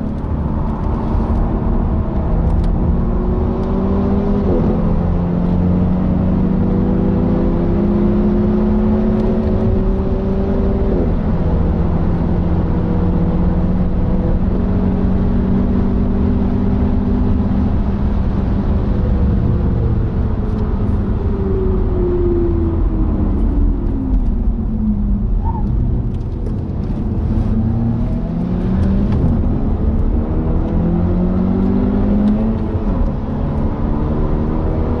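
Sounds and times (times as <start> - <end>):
car engine revving through gears: 0.0 - 21.9, 25.2 - 35.0
road and wind noise: 0.0 - 35.0.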